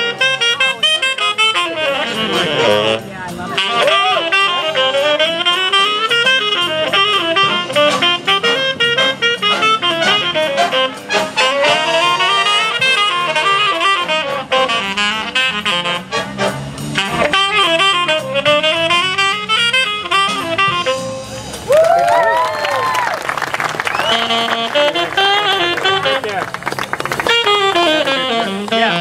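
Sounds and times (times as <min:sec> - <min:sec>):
saxophone quick runs: 0:00.0 - 0:21.7, 0:22.4 - 0:29.0
jazz big band playing: 0:00.0 - 0:29.0.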